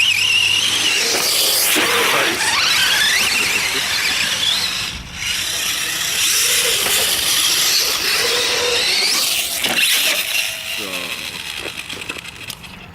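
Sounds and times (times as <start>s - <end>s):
electric motor whining: 0.0s - 12.8s.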